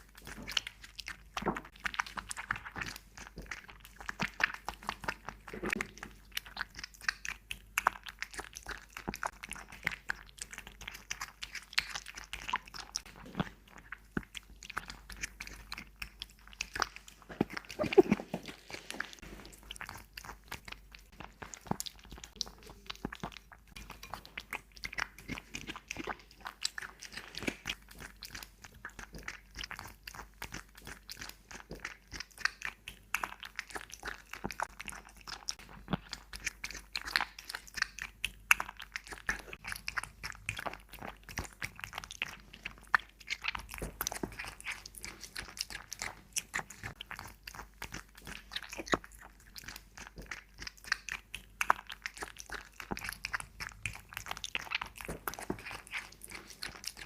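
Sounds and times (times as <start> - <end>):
cat chewing and biting: 0.0 - 57.0.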